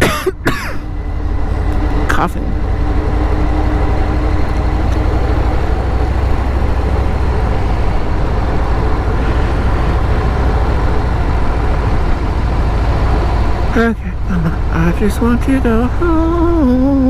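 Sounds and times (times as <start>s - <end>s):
motorcycle engine running: 0.9s - 17.0s.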